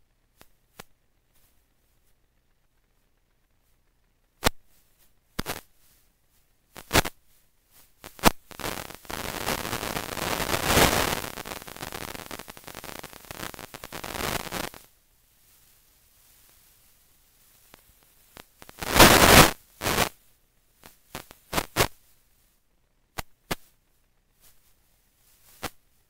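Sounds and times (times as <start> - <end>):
crackling noise: 0.0 - 26.0.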